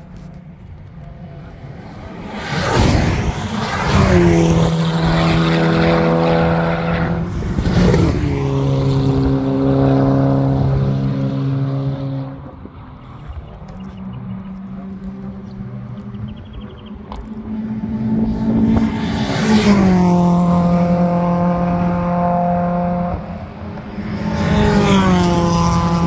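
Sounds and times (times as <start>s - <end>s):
race car engine at full throttle: 0.0s - 26.0s.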